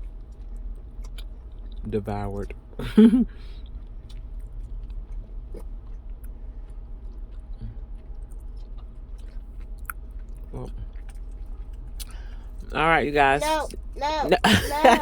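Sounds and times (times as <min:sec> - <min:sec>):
person chewing with wet smacks: 0:00.0 - 0:14.8
steady low hum: 0:00.0 - 0:15.0.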